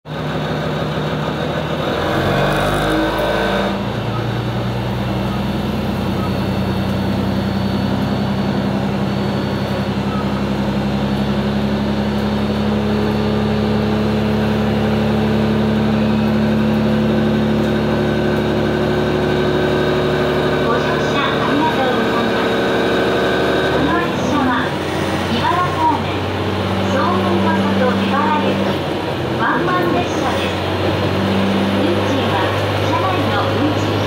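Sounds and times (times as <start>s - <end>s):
diesel railcar engine: 0.0s - 34.0s.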